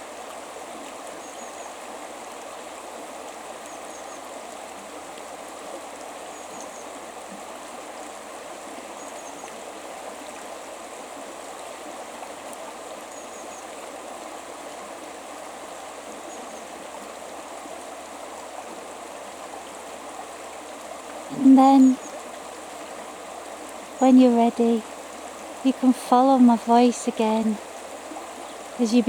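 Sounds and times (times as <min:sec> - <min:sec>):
river water flowing: 0:00.0 - 0:29.0.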